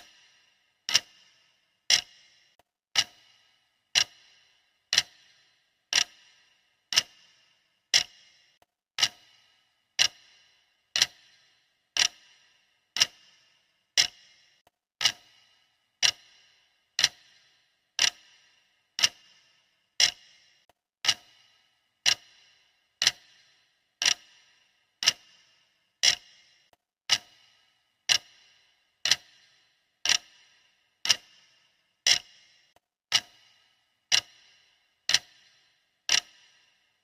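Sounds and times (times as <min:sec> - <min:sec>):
clock ticking: 0:00.0 - 0:37.0.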